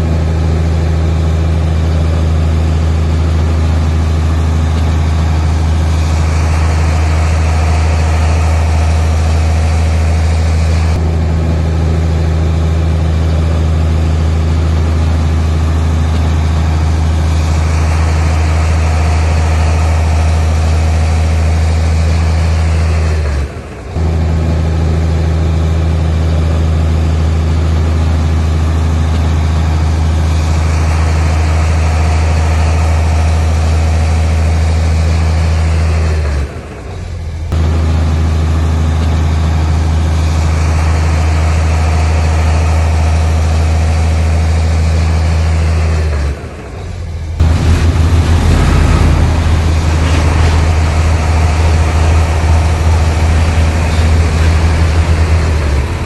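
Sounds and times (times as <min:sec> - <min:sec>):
heavy diesel engine droning: 0:00.0 - 0:56.0.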